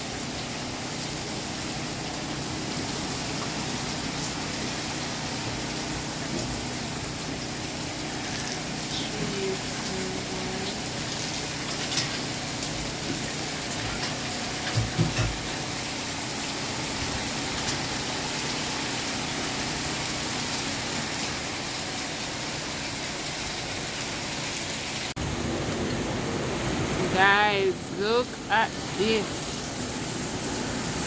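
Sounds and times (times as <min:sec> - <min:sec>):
heavy rain and wind: 0:00.0 - 0:31.0.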